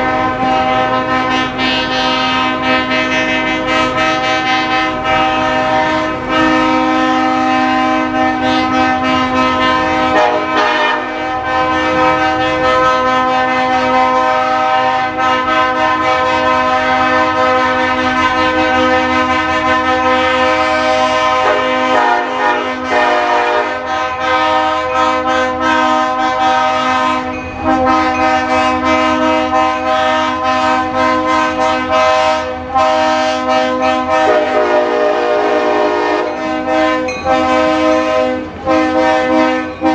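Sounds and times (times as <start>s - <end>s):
train air horn blasts: 0.0s - 39.9s.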